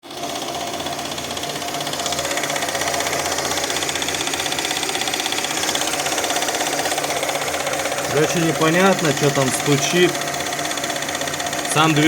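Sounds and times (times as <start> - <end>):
car engine running: 0.0 - 12.0
fast regular engine knock: 0.0 - 12.0.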